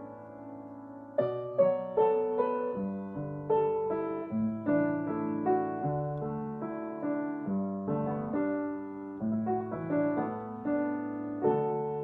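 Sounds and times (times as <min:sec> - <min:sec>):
slow gentle piano: 0:00.0 - 0:12.0.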